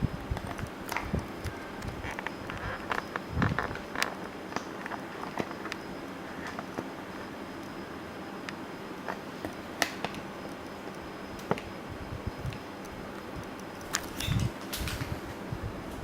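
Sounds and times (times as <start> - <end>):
air conditioner whoosh: 0.0 - 16.0.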